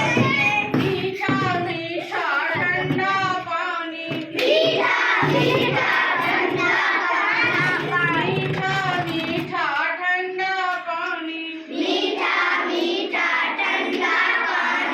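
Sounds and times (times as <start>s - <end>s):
child singing: 0.0s - 14.9s.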